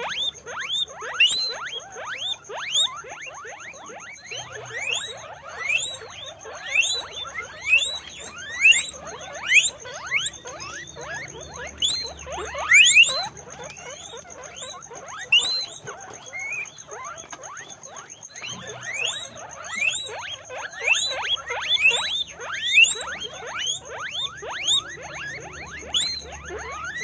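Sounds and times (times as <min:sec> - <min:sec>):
guinea pigs wheeking: 0:00.0 - 0:27.0.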